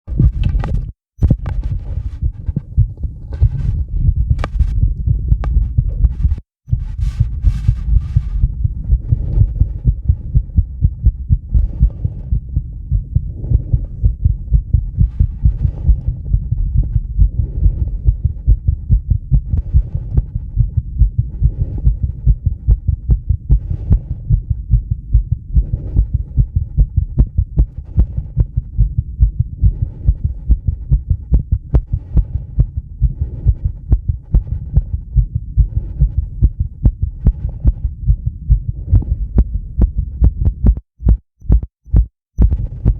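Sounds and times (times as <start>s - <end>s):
fast heartbeat thumps: 0.1s - 42.9s.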